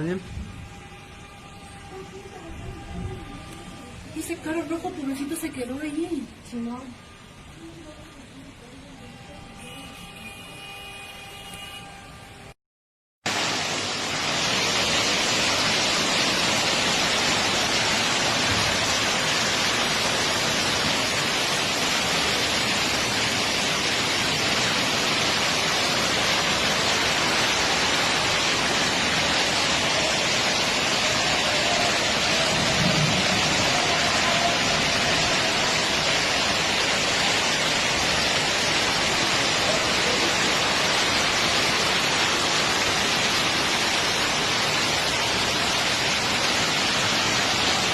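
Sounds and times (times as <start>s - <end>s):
rushing water: 0.0s - 7.5s, 13.2s - 47.9s.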